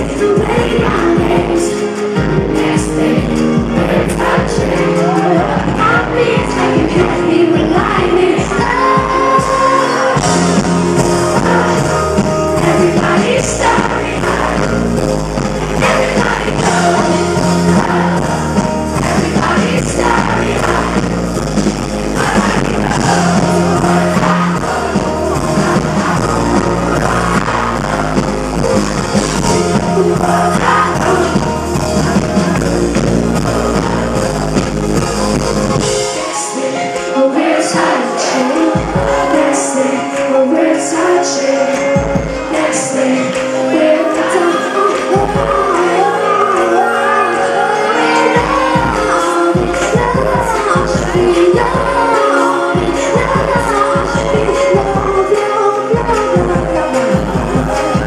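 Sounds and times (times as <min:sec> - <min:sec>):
live electropop band: 0:00.0 - 0:58.0
person singing: 0:00.0 - 0:58.0.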